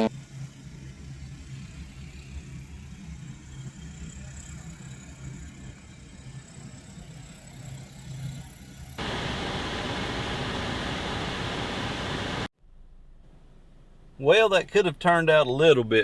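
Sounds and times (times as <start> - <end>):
low engine-like hum: 0.2 - 15.0.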